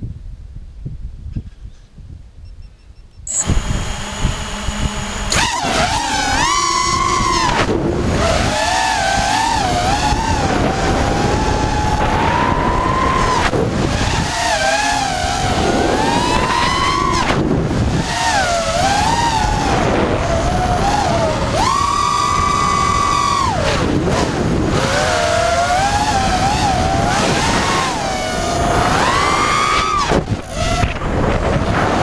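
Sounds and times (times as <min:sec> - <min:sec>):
quadcopter motors whining: 0:03.3 - 0:32.0.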